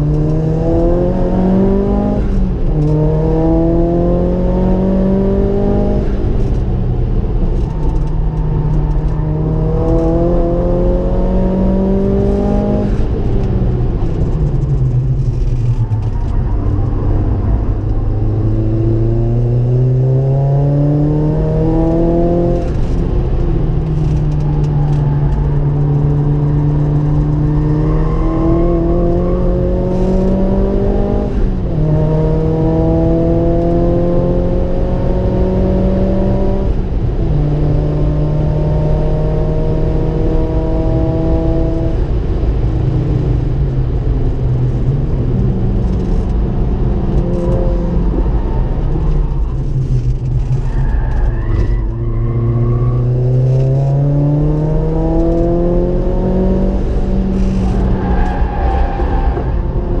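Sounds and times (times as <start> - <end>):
car engine accelerating: 0.0 - 60.0
tyre and road noise: 0.0 - 60.0.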